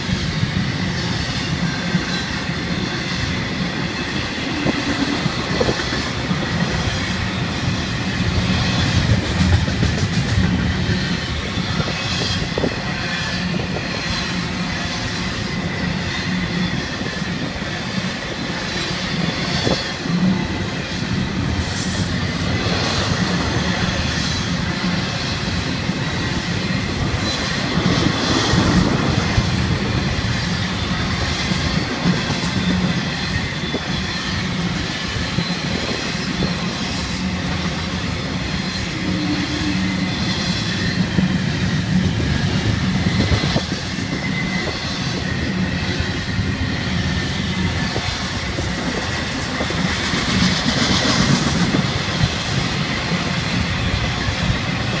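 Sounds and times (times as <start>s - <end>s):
train wheels rumbling and clicking: 0.0s - 55.0s.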